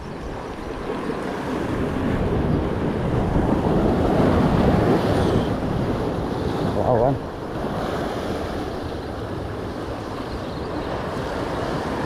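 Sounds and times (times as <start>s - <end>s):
sea waves washing: 0.0s - 12.0s
wind blowing over microphone: 0.0s - 12.0s.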